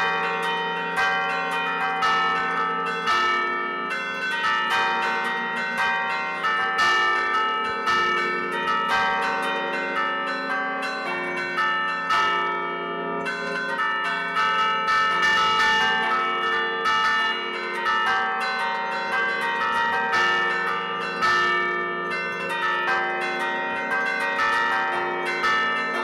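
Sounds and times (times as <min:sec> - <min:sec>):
church bells playing melody: 0:00.0 - 0:26.0.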